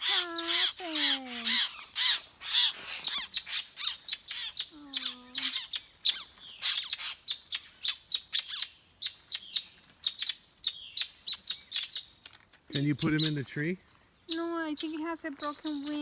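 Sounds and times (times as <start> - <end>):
birds chirping and squawking: 0.0 - 16.0.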